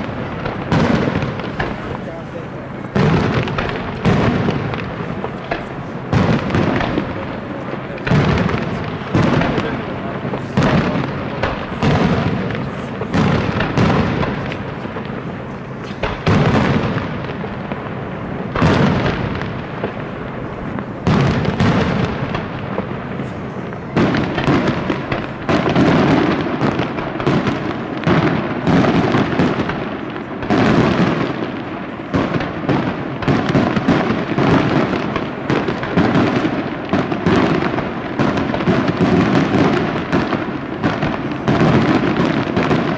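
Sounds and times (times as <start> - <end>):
fireworks bangs: 0.0 - 42.9
rolling rumble: 0.0 - 42.9.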